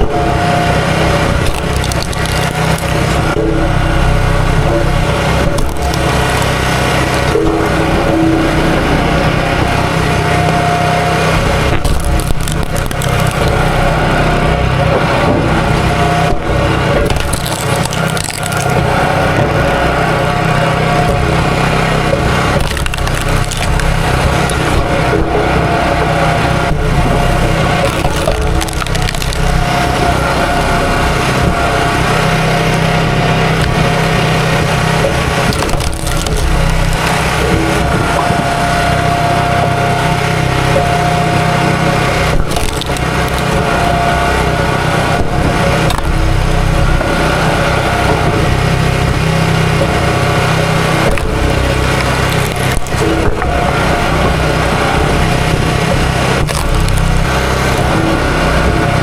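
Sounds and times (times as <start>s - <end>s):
chainsaw cutting wood: 0.0s - 8.6s, 11.1s - 59.0s.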